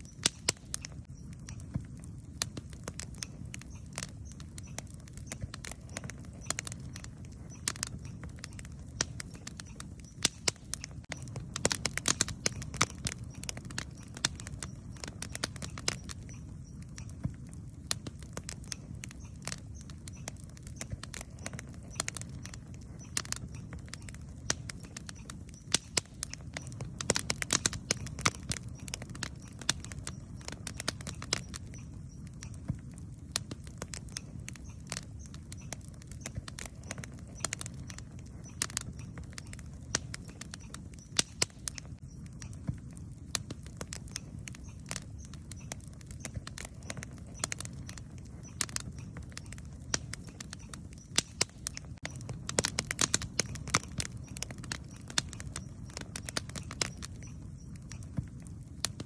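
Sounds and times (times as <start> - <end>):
campfire crackling and popping: 0.0 - 59.0
low rumble of burning fire: 0.0 - 59.0.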